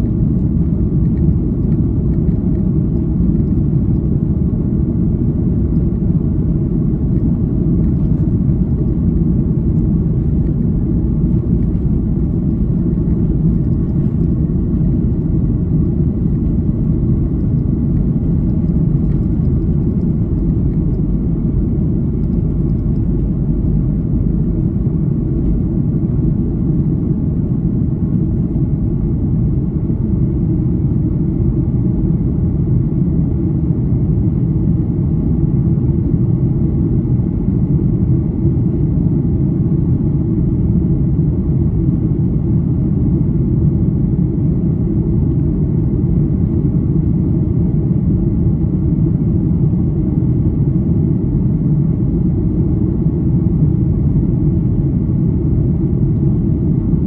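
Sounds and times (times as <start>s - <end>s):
jet engines deep rumble: 0.0s - 57.0s.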